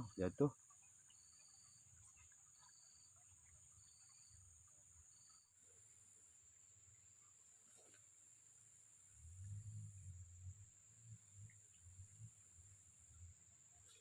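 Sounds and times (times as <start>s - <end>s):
insects high-pitched drone: 0.0s - 7.6s, 8.2s - 14.0s
insect short chirp: 0.0s - 14.0s.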